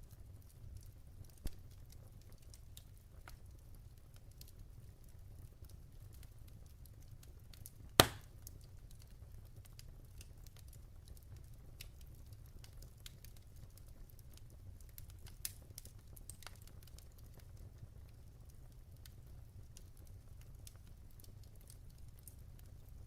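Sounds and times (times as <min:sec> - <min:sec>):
wood fire crackling: 0:00.0 - 0:23.0
fire popping: 0:00.1 - 0:23.0.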